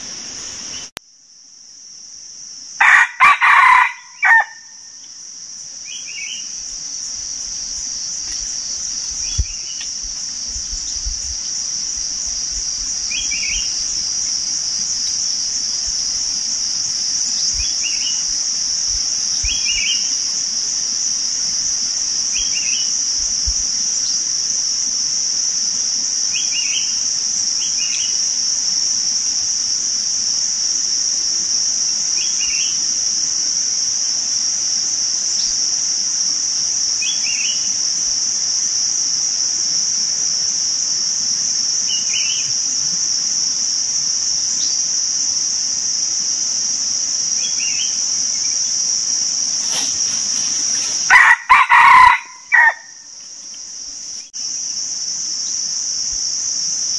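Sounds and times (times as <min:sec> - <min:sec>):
high-pitched insect drone: 0:00.0 - 0:56.9.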